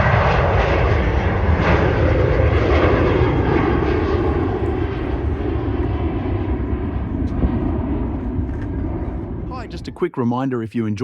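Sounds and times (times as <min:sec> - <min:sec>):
jet airliner roaring overhead: 0:00.0 - 0:10.2.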